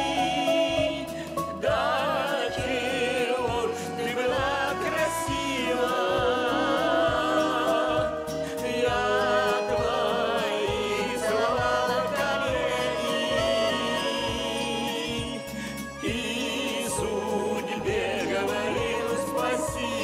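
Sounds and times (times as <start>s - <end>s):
band accompaniment with beat: 0.0s - 20.0s
person singing with vibrato: 0.0s - 20.0s.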